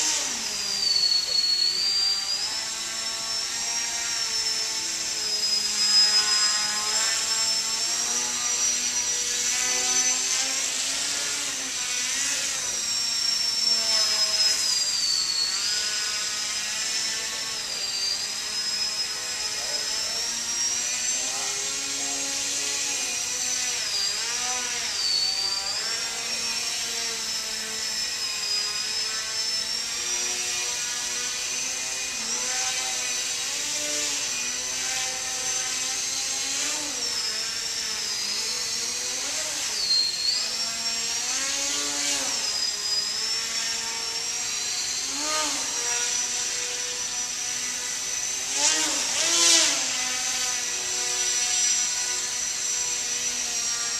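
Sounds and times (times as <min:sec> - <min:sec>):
model airplane motor whining: 0:00.0 - 0:53.9.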